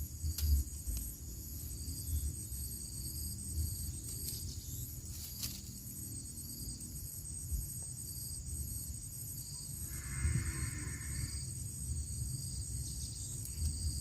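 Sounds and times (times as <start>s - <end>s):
insects calling high-pitched: 0.0s - 14.0s.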